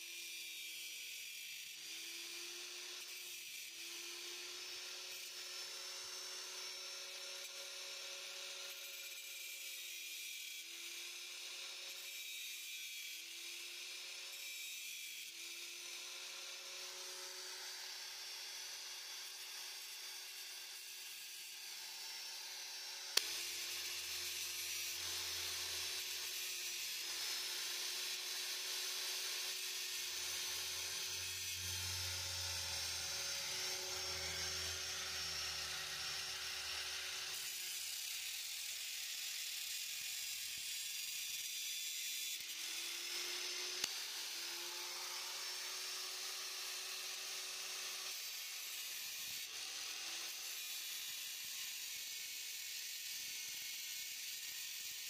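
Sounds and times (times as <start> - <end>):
angle grinder grinding metal: 0.0 - 55.0.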